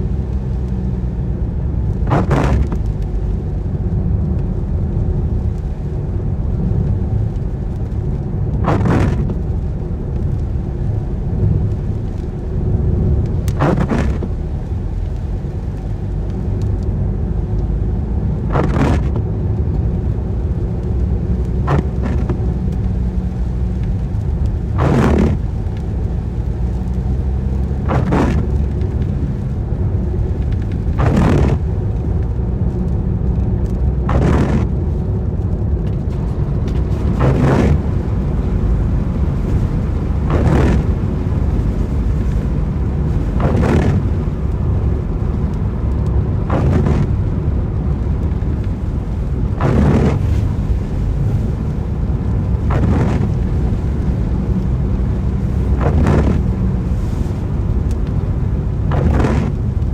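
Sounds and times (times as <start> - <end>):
car road and engine rumble: 0.0 - 59.9
rain: 0.0 - 59.9
windscreen wiper swishing: 0.0 - 59.9.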